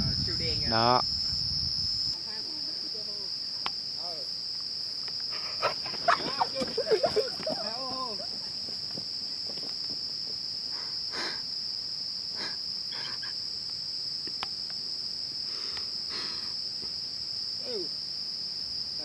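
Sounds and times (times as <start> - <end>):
insects droning high-pitched: 0.0 - 19.0.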